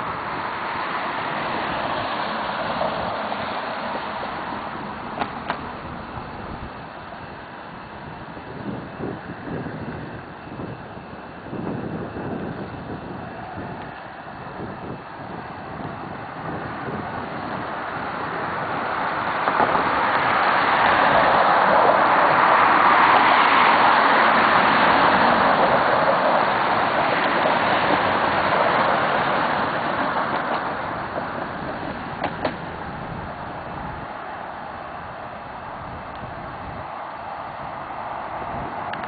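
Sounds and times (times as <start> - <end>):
vehicle passing by: 0.0 - 7.2, 12.2 - 39.0.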